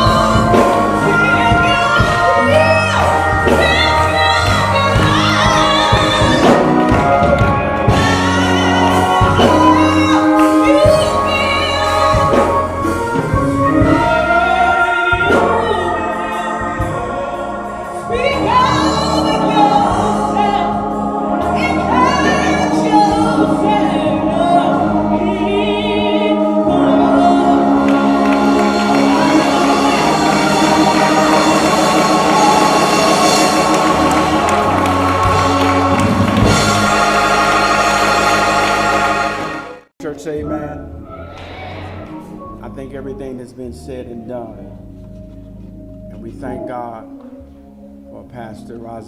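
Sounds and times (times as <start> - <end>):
gospel choir singing: 0.0 - 39.9
instrumental backing: 0.0 - 49.0.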